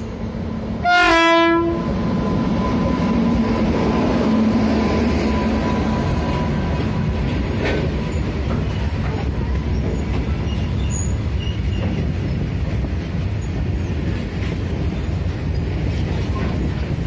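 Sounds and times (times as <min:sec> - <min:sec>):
freight train rolling by: 0:00.0 - 0:17.0.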